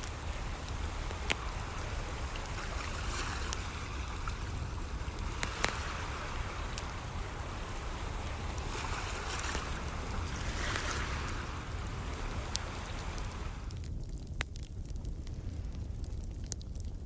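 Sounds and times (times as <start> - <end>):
waves washing: 0.0 - 13.8
wood fire crackling and popping: 0.0 - 17.0.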